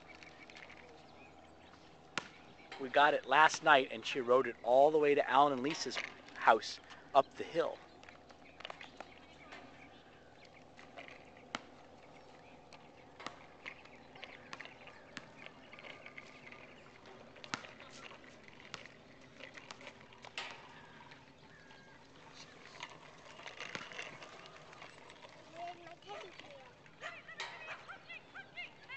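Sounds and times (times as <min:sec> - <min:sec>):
faint outdoor ambience: 0:00.0 - 0:28.9.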